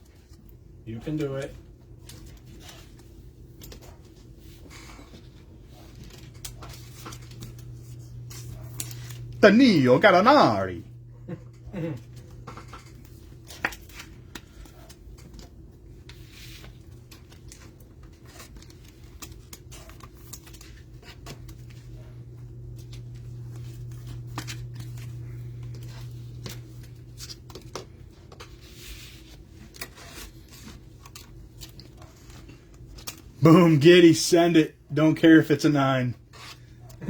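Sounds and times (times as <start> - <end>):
cards and wrappers rustling: 1.2 - 10.8, 12.1 - 34.2.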